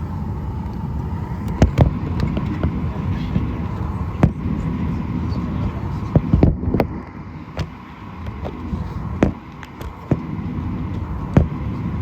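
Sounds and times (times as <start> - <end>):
airliner cabin hum: 0.0 - 12.0.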